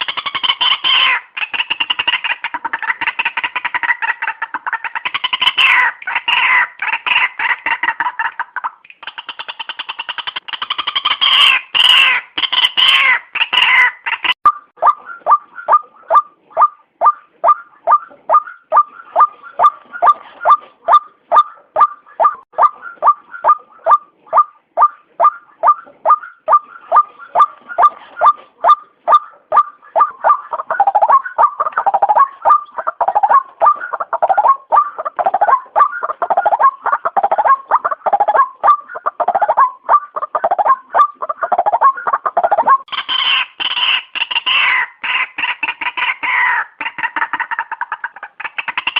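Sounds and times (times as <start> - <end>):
waterhen calling: 0.0 - 48.9.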